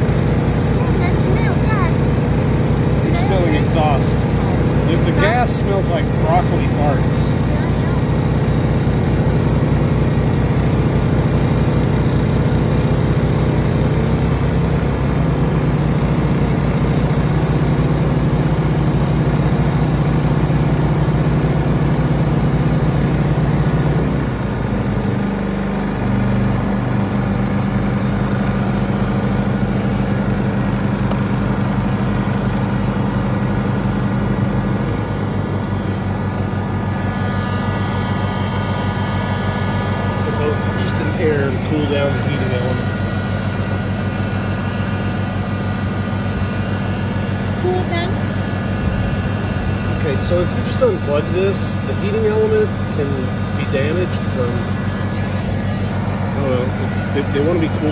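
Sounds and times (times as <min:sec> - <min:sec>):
generator engines humming: 0:00.0 - 0:57.9.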